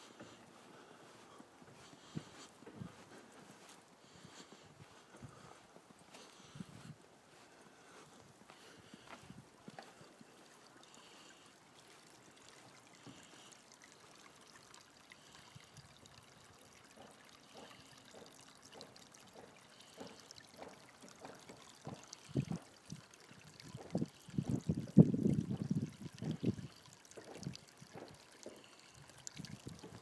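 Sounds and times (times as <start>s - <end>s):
water trickling between rocks: 0.0s - 30.0s.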